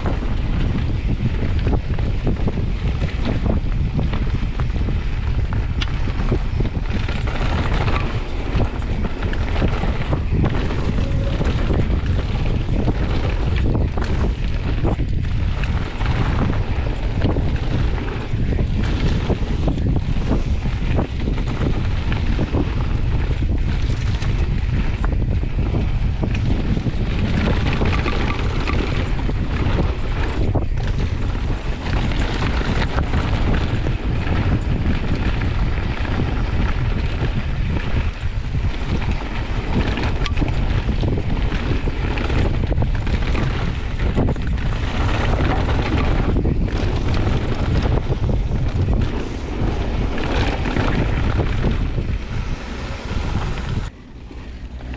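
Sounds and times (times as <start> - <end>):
bike rattling over bumps: 0.0 - 54.9
tyres rolling on gravel: 0.0 - 54.9
wind buffeting microphone: 0.0 - 54.9.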